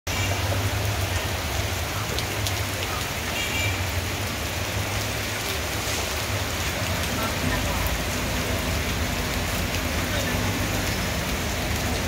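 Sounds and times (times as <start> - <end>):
heavy rain pouring on road: 0.1 - 12.0.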